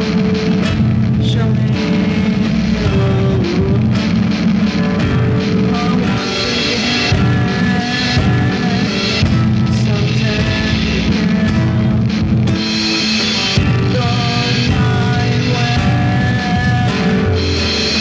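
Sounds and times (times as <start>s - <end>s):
rock band with guitar: 0.0s - 18.0s.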